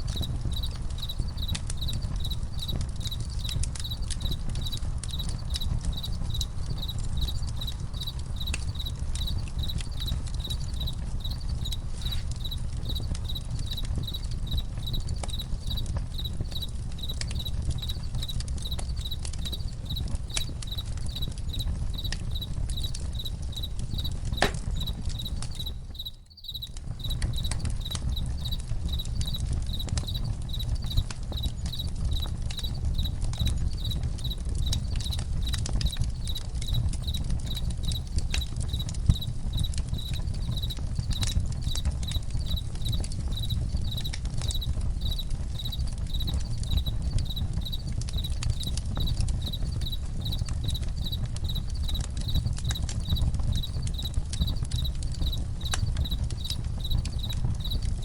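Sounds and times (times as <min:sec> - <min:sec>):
campfire crackling and popping: 0:00.0 - 0:58.0
crickets chirping: 0:00.1 - 0:58.0.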